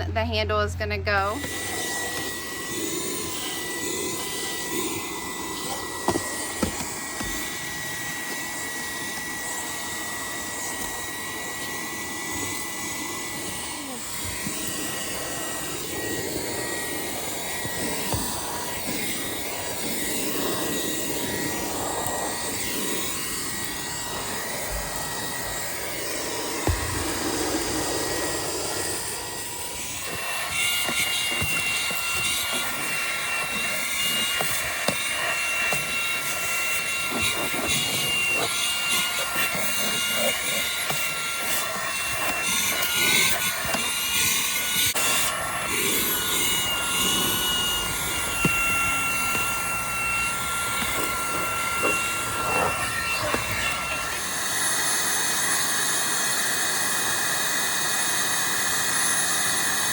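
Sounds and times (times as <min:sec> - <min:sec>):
handheld vacuum motor running: 0:00.0 - 0:59.9.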